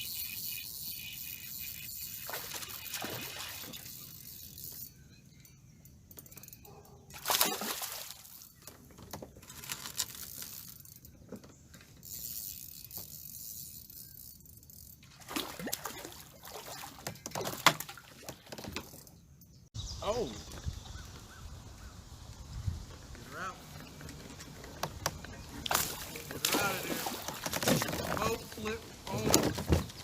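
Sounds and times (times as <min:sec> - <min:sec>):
water splashing and trickling: 0:00.0 - 0:04.9, 0:07.1 - 0:19.2, 0:22.2 - 0:30.0.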